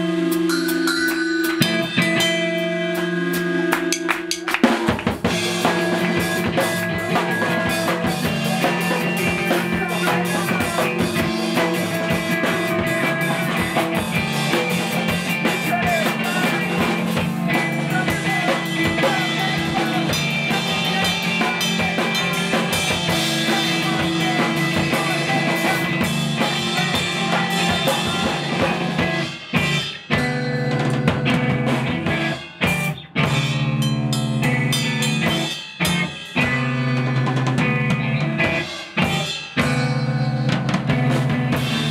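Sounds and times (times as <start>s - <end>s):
loud rock band playing: 0.0s - 41.9s.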